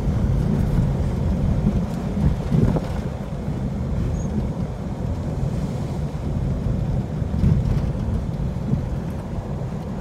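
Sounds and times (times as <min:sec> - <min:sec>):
vehicle rumbling on dirt road: 0:00.0 - 0:10.0.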